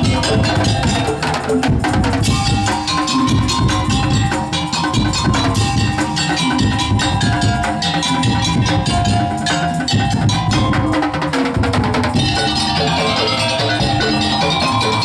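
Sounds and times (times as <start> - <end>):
held pitched melody notes: 0.0 - 15.0
percussion ensemble drumming: 0.0 - 15.0.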